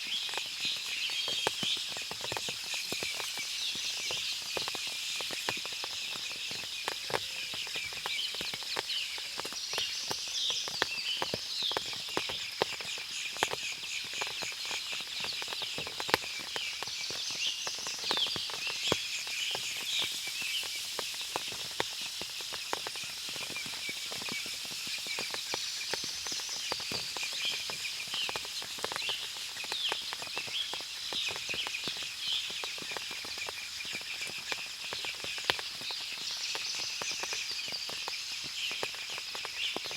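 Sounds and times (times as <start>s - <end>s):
chorus of insects and birds: 0.0s - 39.9s
water dripping from trees: 0.0s - 39.9s.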